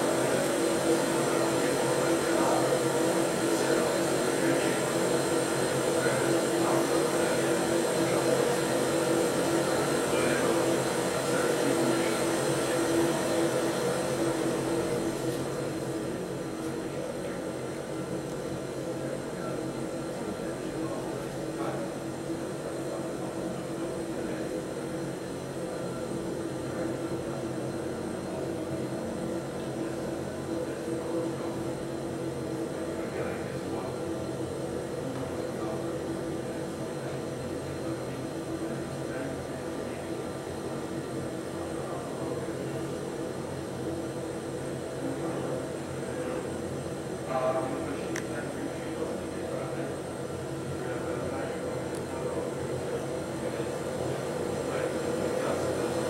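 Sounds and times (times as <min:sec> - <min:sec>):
furnace burner and blower rushing: 0:00.0 - 0:56.0.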